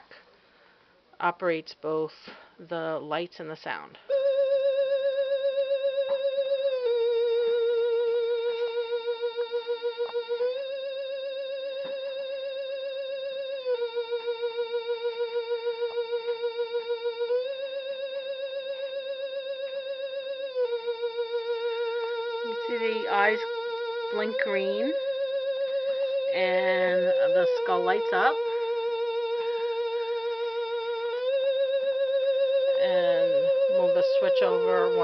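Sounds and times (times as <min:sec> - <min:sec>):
wavering electronic two-note tone: 0:04.0 - 0:35.0.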